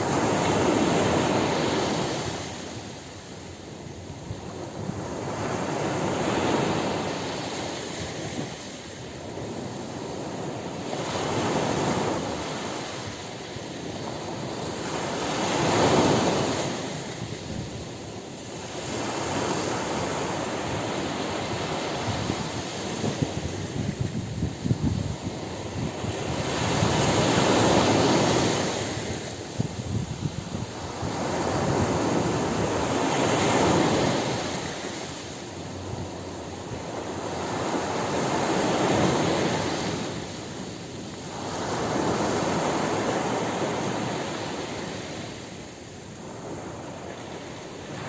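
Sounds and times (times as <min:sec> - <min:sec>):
ocean surf breaking: 0:00.0 - 0:48.0.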